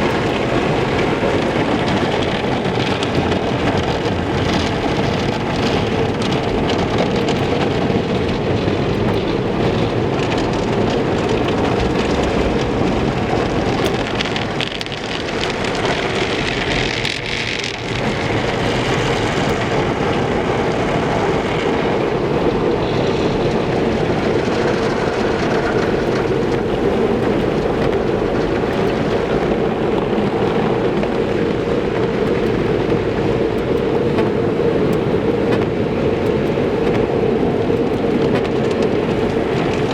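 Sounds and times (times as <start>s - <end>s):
car wash machinery running: 0.0s - 39.9s
car wash water spray: 0.0s - 39.9s.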